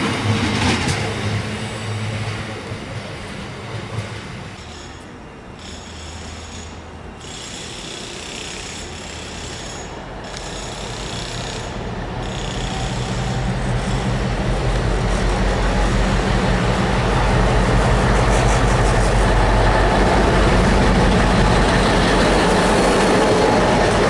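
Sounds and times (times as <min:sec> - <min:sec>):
diesel locomotive engine: 0:00.0 - 0:24.0.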